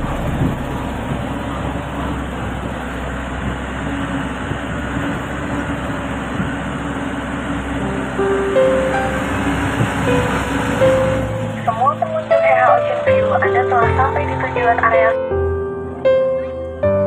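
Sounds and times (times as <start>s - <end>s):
motorcycle engine running: 0.0s - 14.0s
rushing noise: 0.0s - 15.0s.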